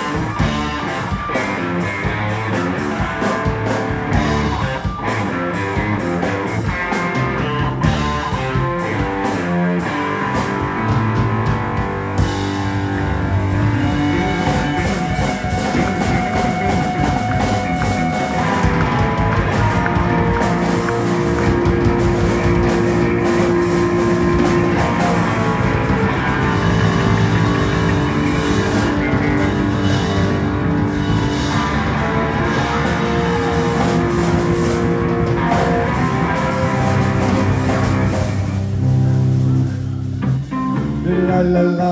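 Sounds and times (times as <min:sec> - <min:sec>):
live rock blues guitar music: 0:00.0 - 0:41.9.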